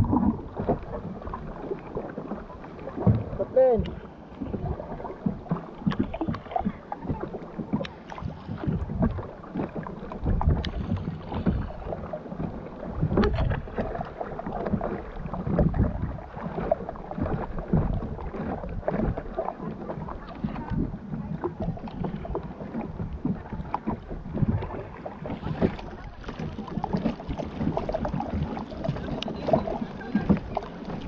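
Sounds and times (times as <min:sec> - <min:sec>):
kayak paddle splashing: 0:00.0 - 0:31.0
water lapping against plastic hull: 0:00.0 - 0:31.0
wind buffeting microphone: 0:00.0 - 0:31.0.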